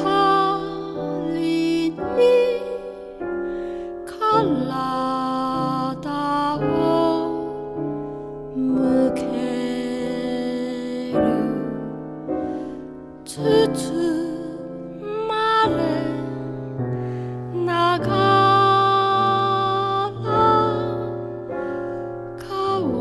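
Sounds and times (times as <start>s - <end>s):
slow gentle music: 0.0s - 23.0s.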